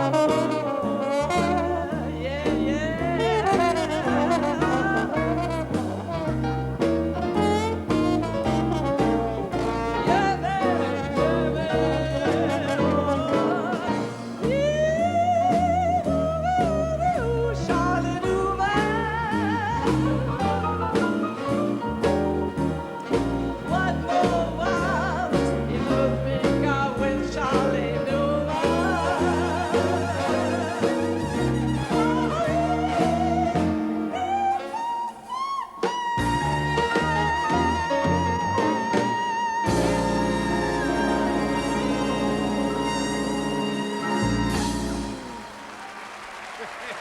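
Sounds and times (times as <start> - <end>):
walking bass: 0.0 - 34.6, 36.2 - 45.5.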